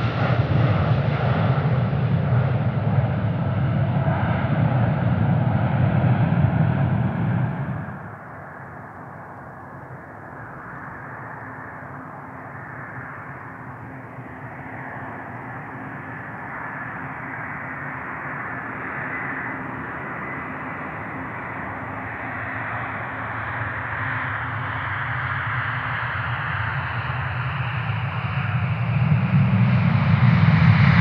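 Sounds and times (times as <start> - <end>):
faint high jet whine: 0.0 - 31.0
jet airliner rumble: 0.0 - 31.0.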